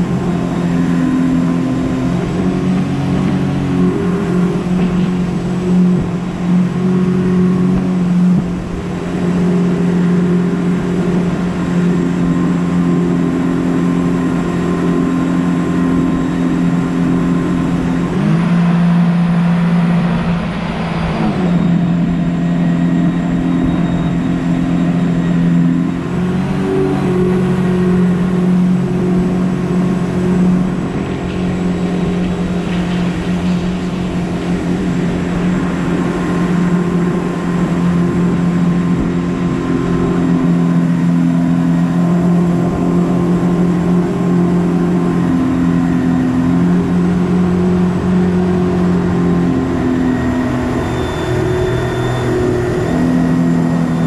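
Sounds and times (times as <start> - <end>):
outboard engine running: 0.0 - 54.0.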